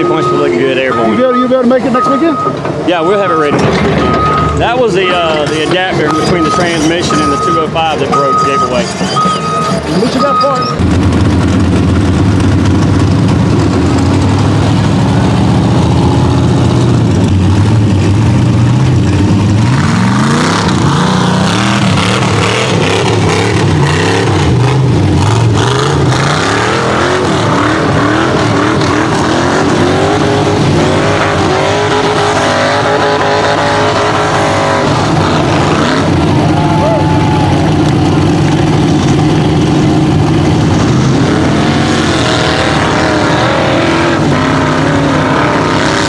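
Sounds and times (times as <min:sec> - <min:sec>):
buggy engine revving: 0:00.0 - 0:46.0.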